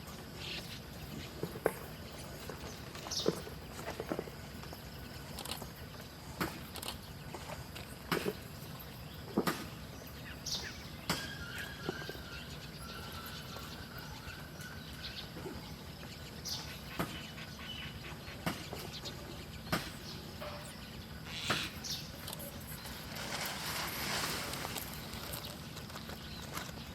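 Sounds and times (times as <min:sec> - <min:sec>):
steady background hiss: 0:00.0 - 0:26.9.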